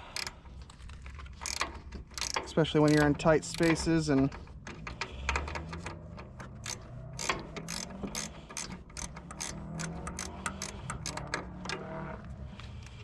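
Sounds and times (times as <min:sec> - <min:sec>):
ratcheting wrench clicking: 0:00.0 - 0:11.9.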